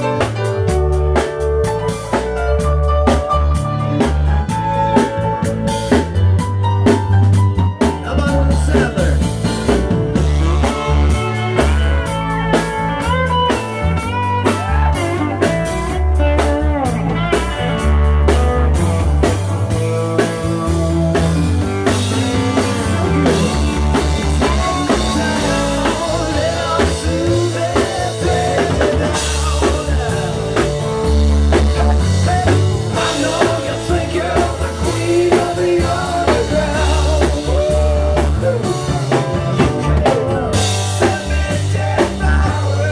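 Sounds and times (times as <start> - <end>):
drum kit beat: 0.0 - 42.9
electric guitar: 0.0 - 42.9.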